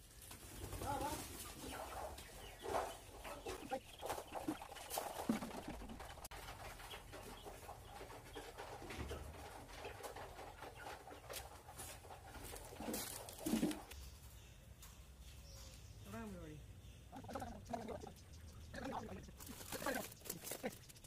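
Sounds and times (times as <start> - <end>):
hens clucking: 0.2 - 14.0, 17.0 - 21.0.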